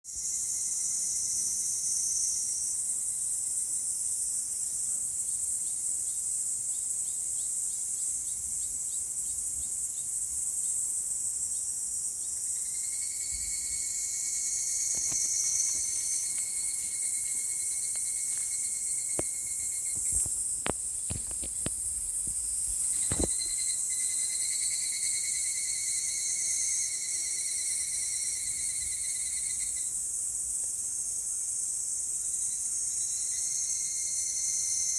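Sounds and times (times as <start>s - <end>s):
cicadas buzzing chorus: 0.1s - 34.9s
lower cicada drone: 0.1s - 34.9s.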